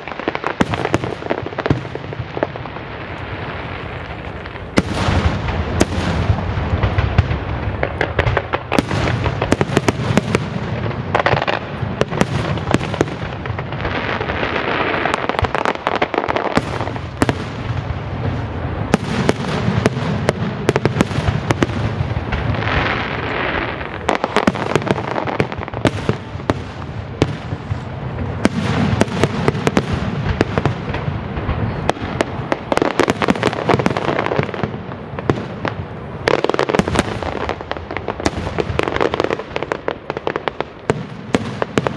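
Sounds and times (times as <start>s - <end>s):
crackle and hiss of fireworks: 0.0s - 41.9s.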